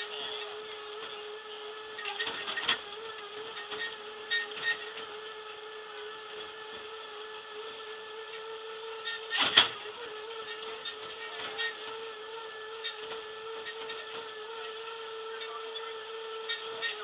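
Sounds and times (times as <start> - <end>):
electric drive whine: 0.0 - 17.0.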